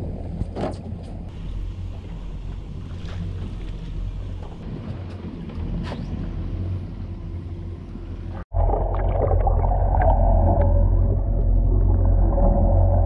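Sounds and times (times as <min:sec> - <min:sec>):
wind and sea: 0:00.0 - 0:13.0
muffled underwater rumble: 0:01.3 - 0:13.0.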